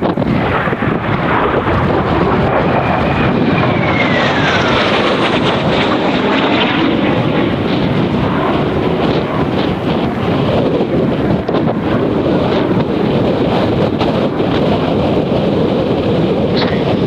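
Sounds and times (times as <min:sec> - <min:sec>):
jet aircraft roaring overhead: 0:00.0 - 0:17.0
wind buffeting microphone: 0:00.0 - 0:17.0.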